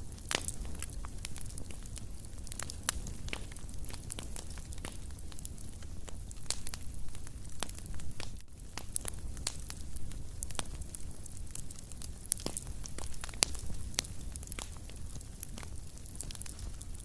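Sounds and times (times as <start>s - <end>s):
fire crackling with pops and snaps: 0.0s - 17.0s.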